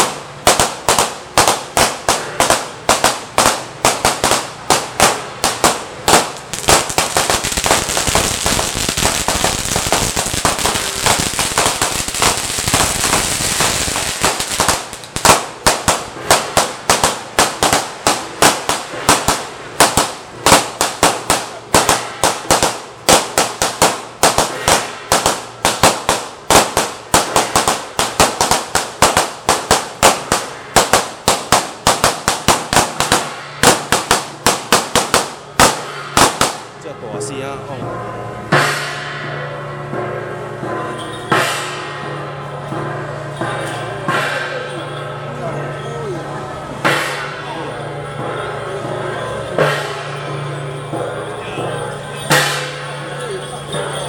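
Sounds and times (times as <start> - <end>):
firecracker bangs: 0.0 - 36.8, 38.5 - 40.0, 41.0 - 42.4, 46.8 - 54.0
firecracker string crackling: 0.0 - 37.3, 46.7 - 54.0.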